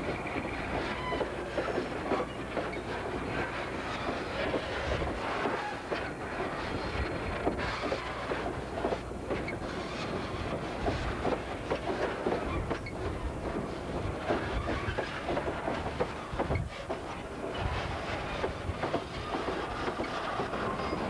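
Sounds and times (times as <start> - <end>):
diesel locomotive rumble: 0.0 - 21.0
train wheels clattering on rails: 0.0 - 21.0.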